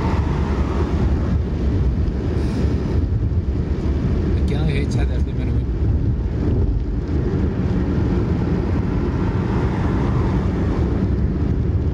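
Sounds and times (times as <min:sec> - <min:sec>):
car driving on wet road: 0:00.0 - 0:11.9.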